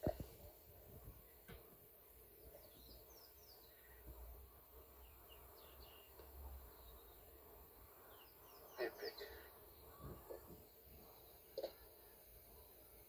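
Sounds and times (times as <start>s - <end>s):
faint bird chirps: 1.2s - 13.0s.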